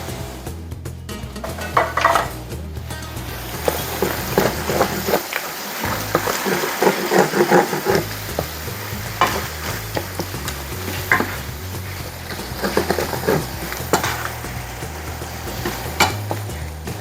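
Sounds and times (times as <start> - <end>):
food sizzling in a pan: 0.0 - 0.7, 1.4 - 17.0
utensil scraping and knocking pan: 1.4 - 2.5, 3.2 - 17.0.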